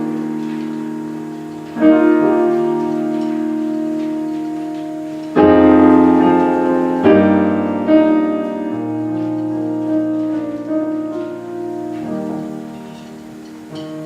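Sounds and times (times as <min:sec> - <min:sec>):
keyboard playing slow chords: 0:00.0 - 0:14.0.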